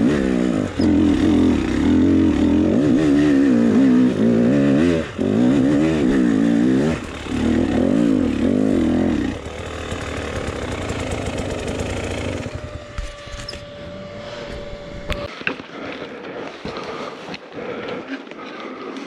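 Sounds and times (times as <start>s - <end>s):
motorcycle engine revving and idling: 0.0s - 15.3s.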